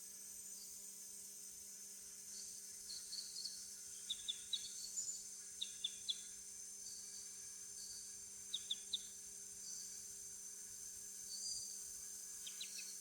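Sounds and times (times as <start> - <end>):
insects droning: 0.2 - 13.0.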